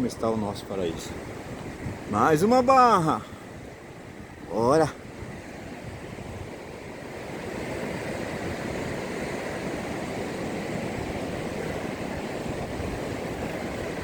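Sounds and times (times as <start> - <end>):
sea surf rushing: 0.0 - 14.0
wind on microphone: 0.0 - 14.0.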